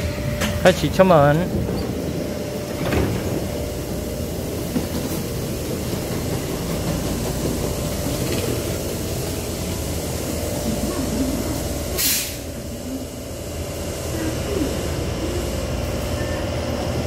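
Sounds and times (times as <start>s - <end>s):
train humming at platform: 0.0s - 17.0s.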